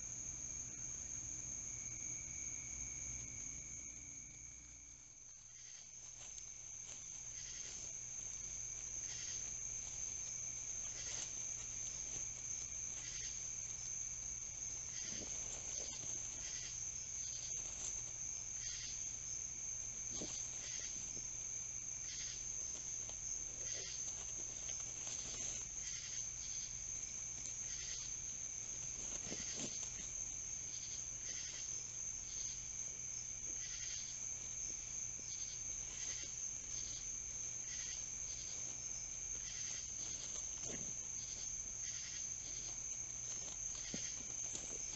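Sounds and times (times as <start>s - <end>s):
crickets trilling: 0.0s - 44.9s
pulsing insect calls: 0.0s - 44.9s
rustling dry leaves: 5.0s - 44.9s.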